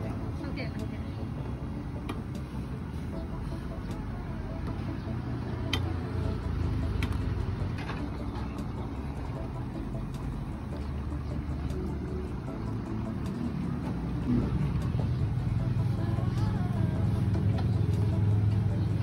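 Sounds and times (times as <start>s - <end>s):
street noise rumble: 0.0s - 19.0s.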